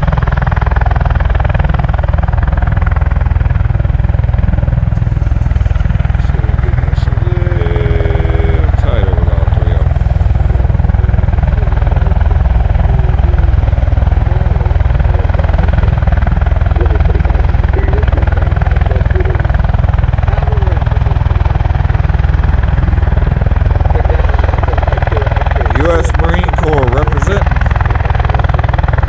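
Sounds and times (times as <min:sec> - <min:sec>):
tiltrotor aircraft rotors thumping: 0:00.0 - 0:29.0.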